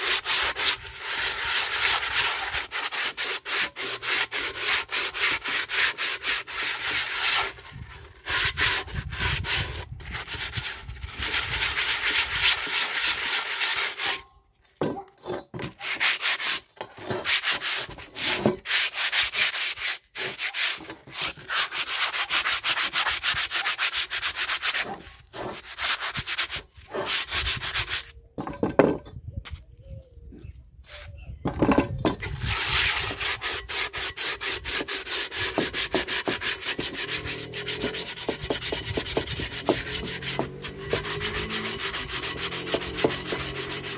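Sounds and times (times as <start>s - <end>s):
sandpaper scrubbing cast iron: 0.0s - 14.3s, 15.7s - 28.1s, 32.2s - 43.9s.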